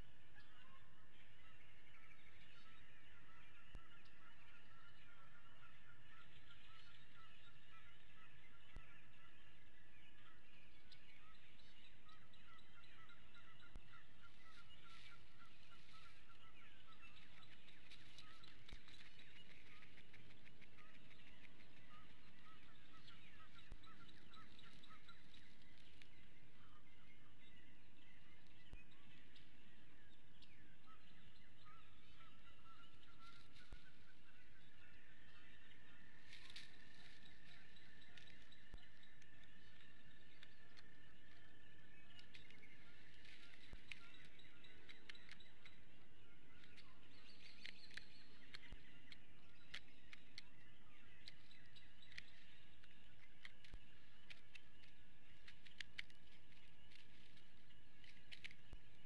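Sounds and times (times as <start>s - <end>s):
chorus of birds chirping: 0.0s - 59.0s.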